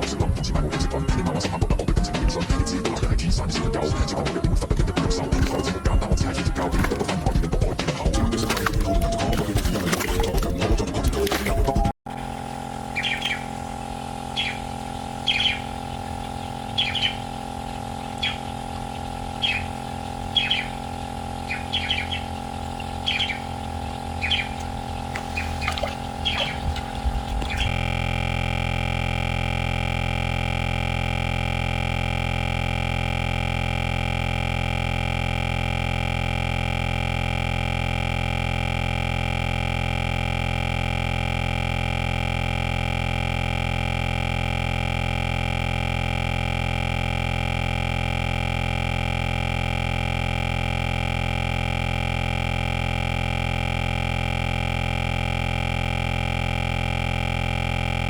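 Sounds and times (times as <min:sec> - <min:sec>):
steady electronic hum: 0:00.0 - 0:58.0.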